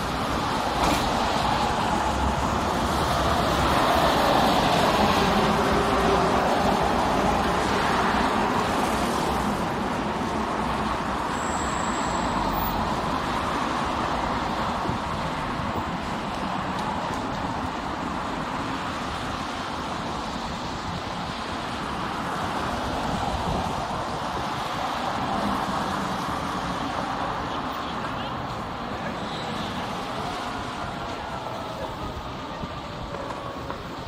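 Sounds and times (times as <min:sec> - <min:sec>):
cars passing: 0:00.0 - 0:34.0.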